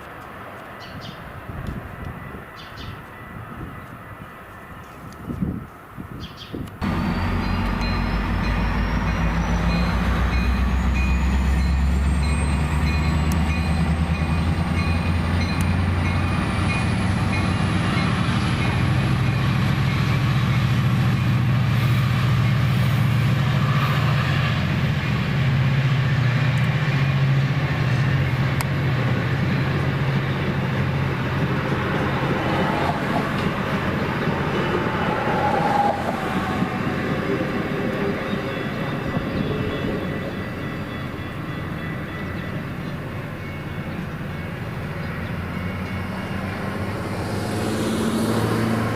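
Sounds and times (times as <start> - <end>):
diesel train engine drone: 6.6 - 48.9
rolling train cars rumble: 6.6 - 48.9.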